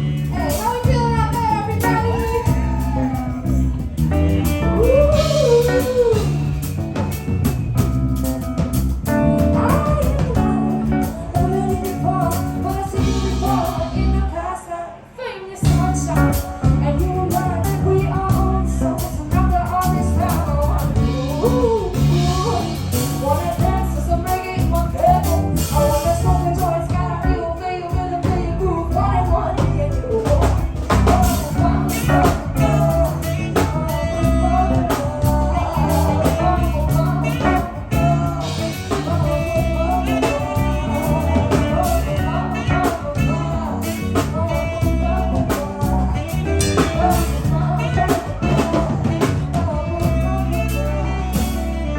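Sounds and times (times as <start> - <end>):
live band playing: 0.0 - 51.9
person singing: 0.0 - 51.9.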